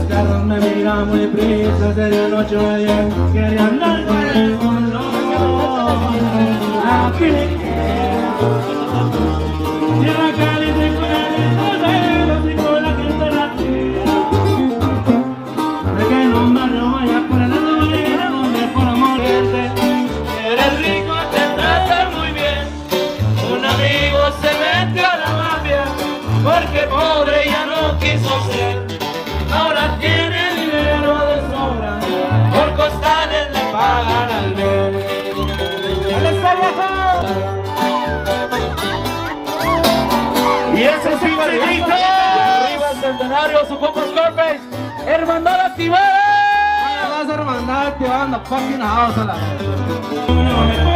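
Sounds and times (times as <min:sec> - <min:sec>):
man singing: 0:00.0 - 0:39.1, 0:39.7 - 0:49.2, 0:50.0 - 0:50.9
sousaphone bass notes: 0:00.0 - 0:50.9
strummed twelve-string guitar: 0:00.0 - 0:50.9.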